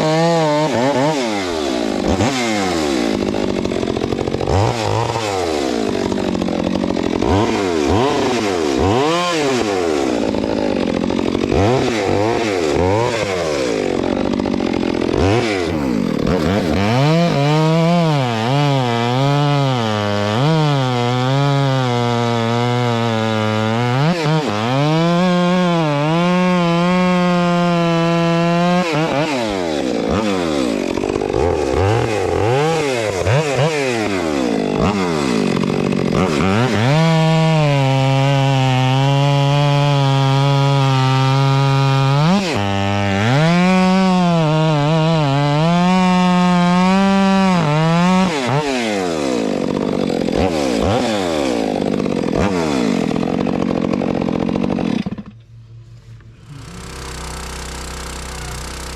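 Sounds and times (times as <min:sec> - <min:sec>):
chainsaw cutting logs: 0:00.0 - 0:58.9.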